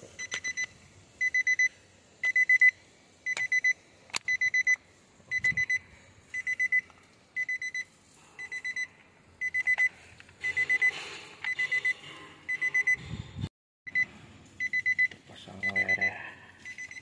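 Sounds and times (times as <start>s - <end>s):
vehicle warning chime beeping: 0.2s - 13.0s, 13.9s - 17.0s.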